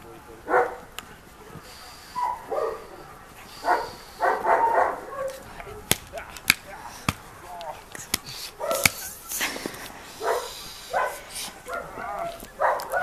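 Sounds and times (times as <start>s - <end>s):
dog barking and yipping: 0.3s - 9.3s, 10.1s - 13.0s.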